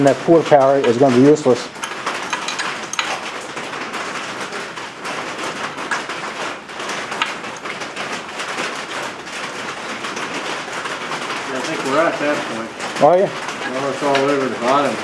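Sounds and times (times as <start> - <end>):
rain on a roof: 0.0 - 15.0.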